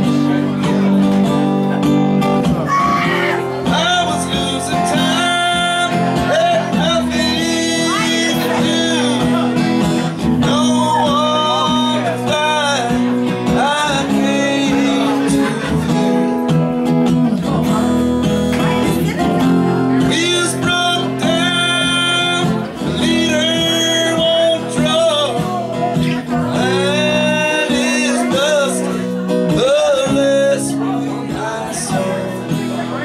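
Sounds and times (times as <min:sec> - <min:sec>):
acoustic guitar: 0:00.0 - 0:33.0
man singing: 0:00.0 - 0:33.0.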